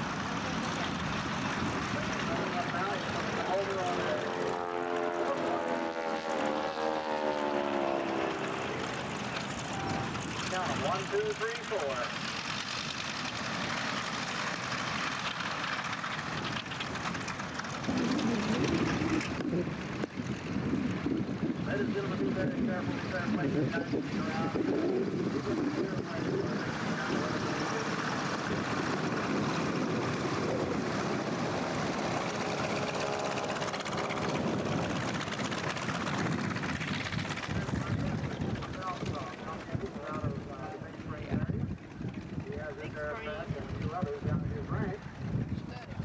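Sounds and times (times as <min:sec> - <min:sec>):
propeller aircraft engine drone: 0:00.0 - 0:46.0.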